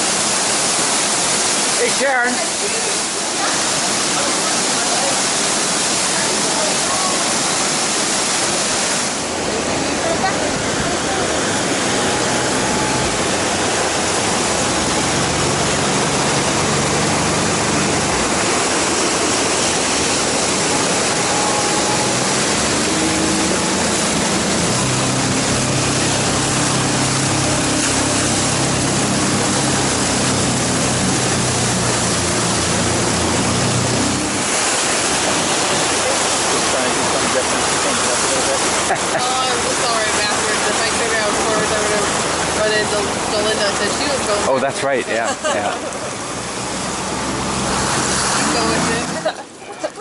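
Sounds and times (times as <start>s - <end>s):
whitewater rushing: 0.0s - 50.0s.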